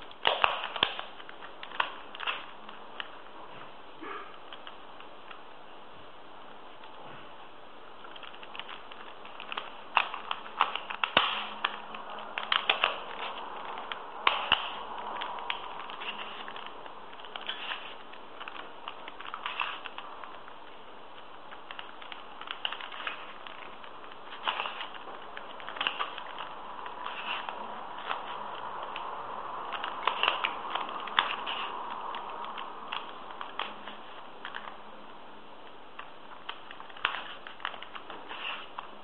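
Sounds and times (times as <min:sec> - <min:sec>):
plastic puzzle cube clicking: 0:00.0 - 0:03.1, 0:08.0 - 0:34.8, 0:35.9 - 0:39.0.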